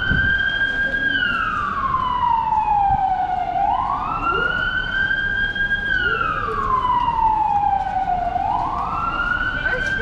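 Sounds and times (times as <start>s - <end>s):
emergency siren wailing: 0.0s - 10.0s.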